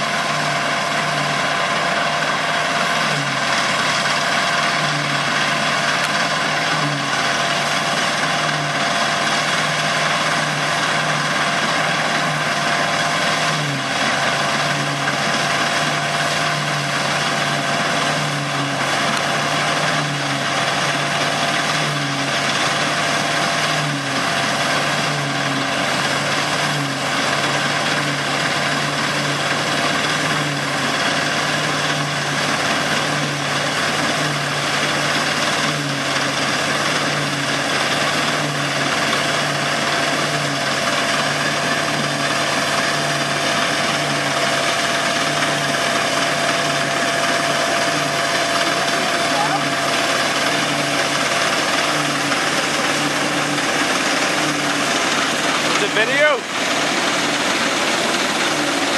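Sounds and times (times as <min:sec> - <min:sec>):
combine harvester low hum: 0:00.0 - 0:58.9
steady higher whine: 0:00.0 - 0:58.9.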